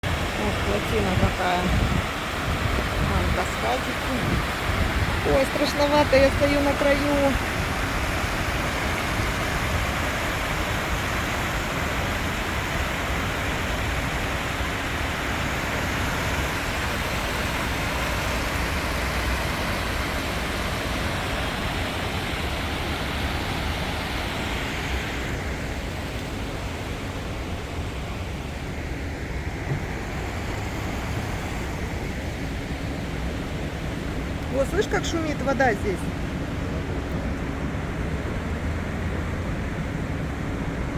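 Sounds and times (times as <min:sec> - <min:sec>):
river water rushing over cascades: 0:00.0 - 0:40.9.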